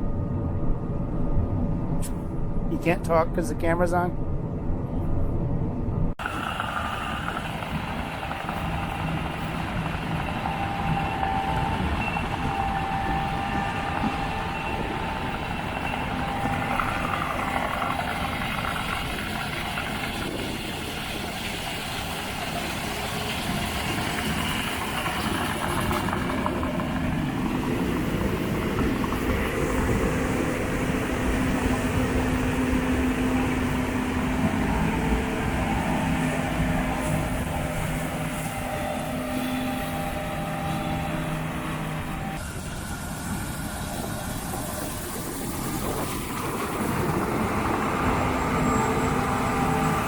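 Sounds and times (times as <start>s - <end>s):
combine harvester running: 0.0s - 50.0s
faint machine whining tones: 6.4s - 20.4s, 21.8s - 50.0s.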